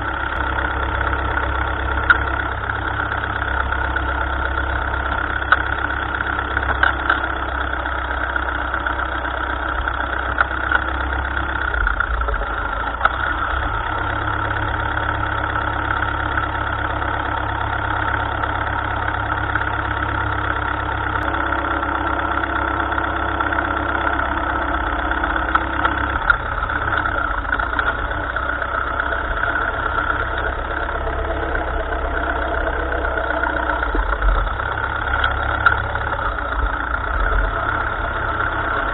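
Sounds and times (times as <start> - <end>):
tractor engine running steadily: 0.0 - 38.9.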